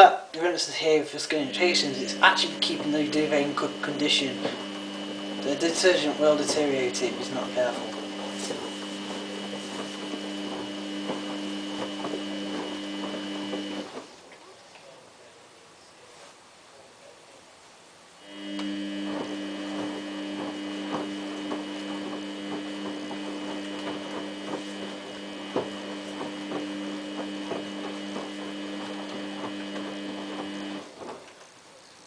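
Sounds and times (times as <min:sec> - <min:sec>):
washing machine drum humming: 0:00.0 - 0:14.3, 0:18.2 - 0:31.5.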